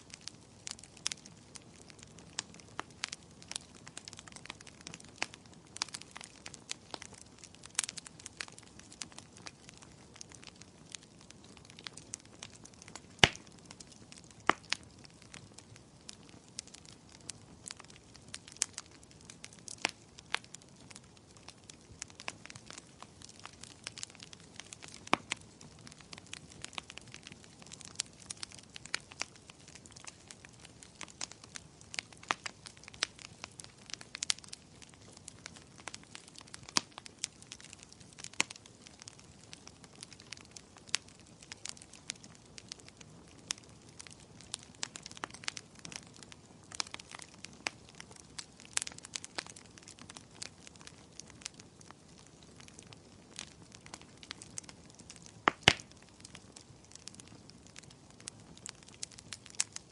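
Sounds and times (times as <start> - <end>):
firewood crackling and popping: 0.0 - 59.9
soft hiss of flames: 0.0 - 59.9.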